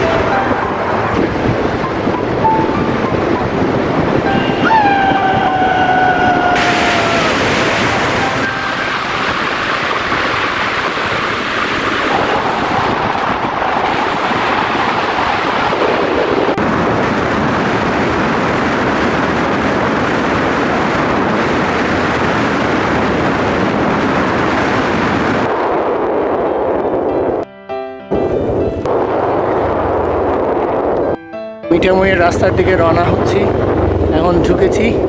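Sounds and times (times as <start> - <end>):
wind rushing over microphone: 0.0 - 27.5, 28.1 - 35.0.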